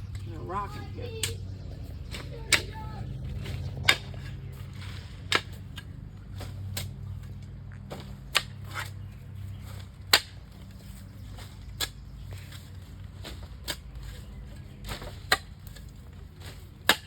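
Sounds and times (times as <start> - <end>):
tool scraping dirt: 0.0 - 17.0
digging tool striking dirt: 1.2 - 17.0.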